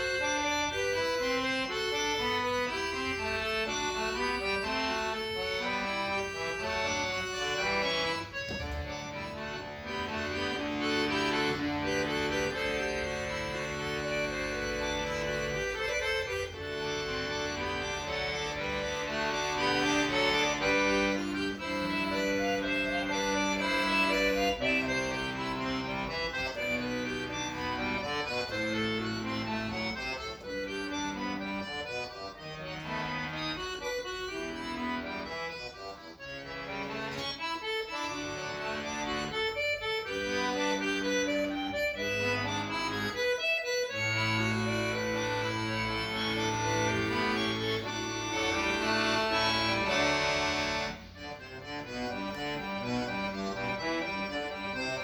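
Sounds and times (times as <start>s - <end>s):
accordion playing: 0.0s - 55.0s.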